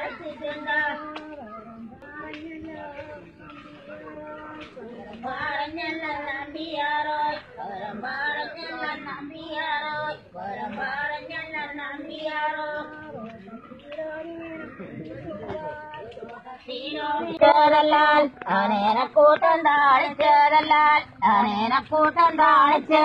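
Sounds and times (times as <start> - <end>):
women singing a work song: 0.0 - 23.0.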